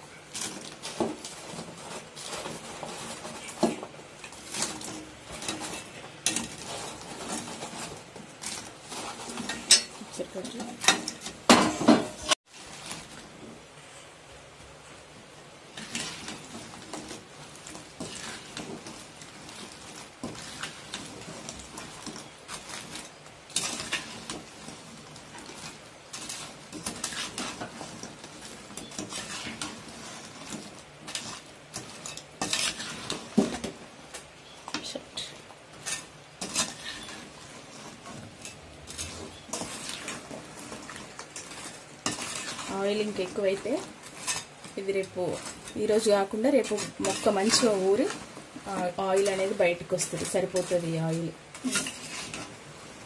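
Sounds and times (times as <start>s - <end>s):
metal spatula scraping steel pan: 0.0s - 13.2s, 15.7s - 53.0s.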